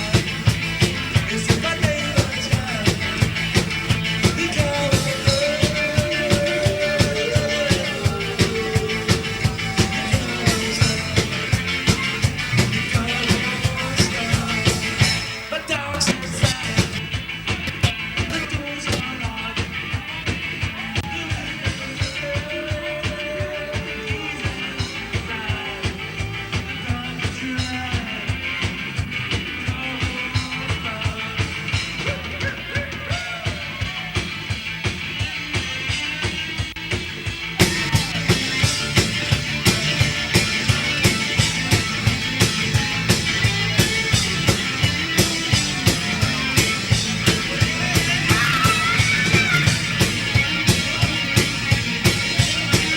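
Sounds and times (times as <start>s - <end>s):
drum kit fast beat: 0.0s - 52.9s
live rock band playing: 0.0s - 52.9s.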